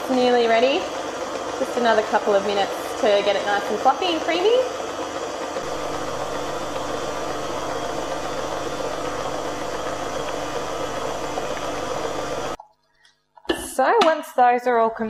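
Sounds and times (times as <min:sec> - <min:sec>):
stand mixer running: 0:00.0 - 0:12.6.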